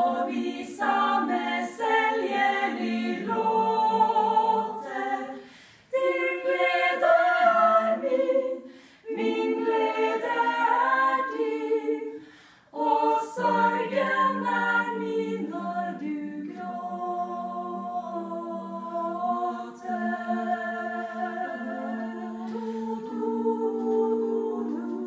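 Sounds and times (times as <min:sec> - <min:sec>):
women's choir singing a cappella: 0:00.0 - 0:25.0.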